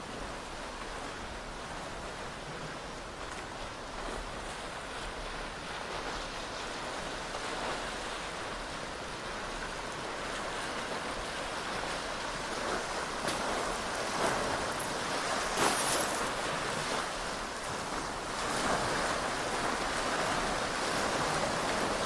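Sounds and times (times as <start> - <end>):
surf washing on beach: 0.0 - 22.0.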